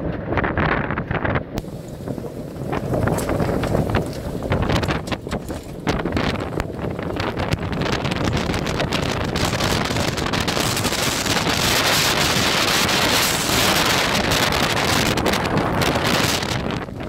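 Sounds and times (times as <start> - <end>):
strong wind across microphone: 0.0 - 17.0
choppy water rushing: 1.6 - 17.0.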